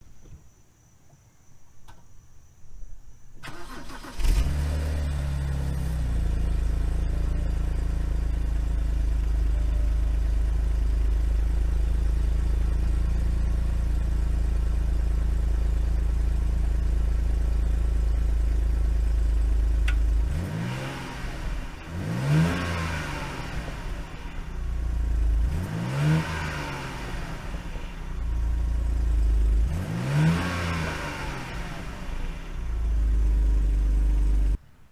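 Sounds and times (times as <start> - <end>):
car engine revving: 3.4 - 34.6
car engine starting and idling: 3.4 - 34.8.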